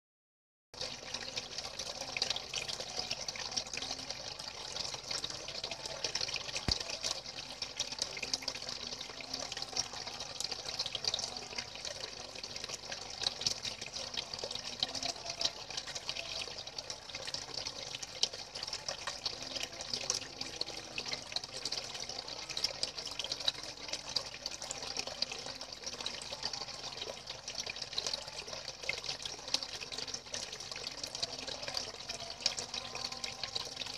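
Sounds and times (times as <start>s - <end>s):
water streams pouring and splashing: 0.8s - 33.9s.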